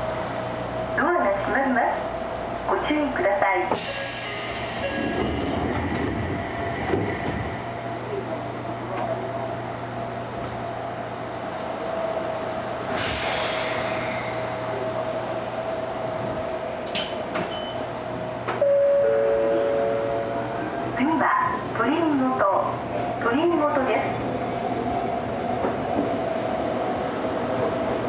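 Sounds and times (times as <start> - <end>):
train wheels rumbling on rail: 0.0 - 18.6, 19.4 - 28.0.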